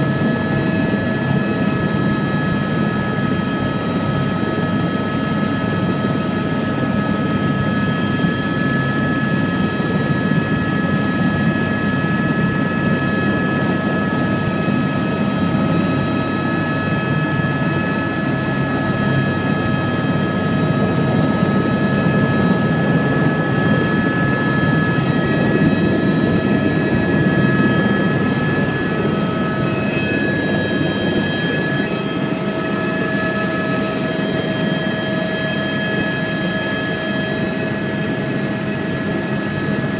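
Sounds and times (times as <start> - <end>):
helicopter engine whining: 0.0 - 39.9
helicopter rotor drone: 0.0 - 39.9.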